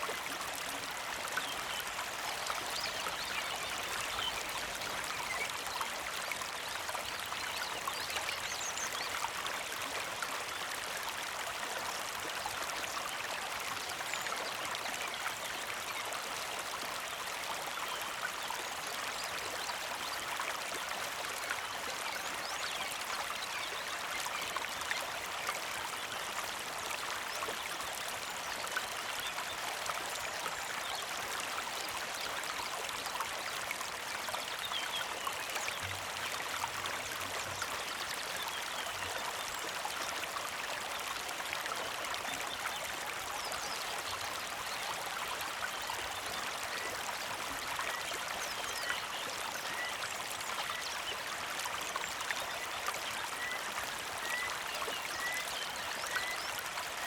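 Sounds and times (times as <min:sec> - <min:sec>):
creek flowing over rocks: 0:00.0 - 0:57.0.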